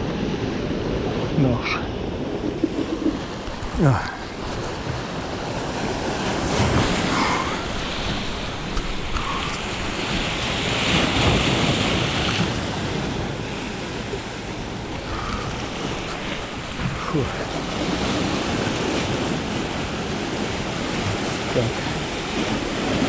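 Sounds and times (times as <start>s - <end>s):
sea waves breaking over rocks: 0.0s - 23.0s
wind buffeting microphone: 0.0s - 23.0s.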